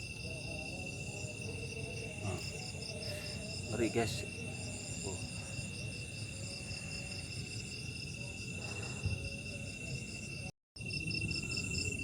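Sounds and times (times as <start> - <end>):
crickets and insects chirring: 0.0 - 12.0
pulsed insect trill: 0.0 - 12.0.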